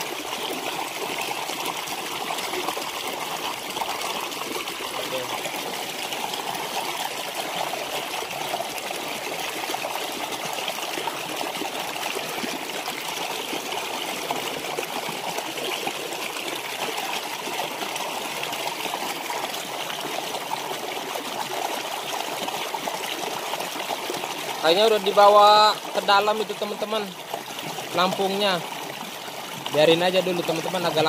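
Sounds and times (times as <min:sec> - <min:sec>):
stream flowing over stones: 0:00.0 - 0:31.0.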